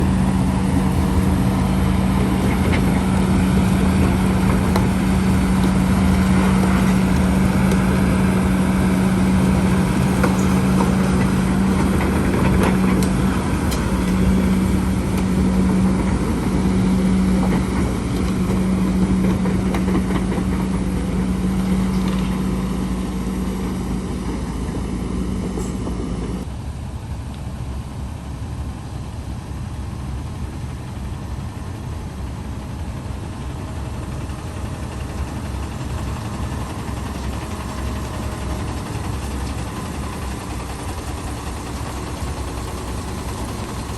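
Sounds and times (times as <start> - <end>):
diesel engine humming: 0.0 - 43.9.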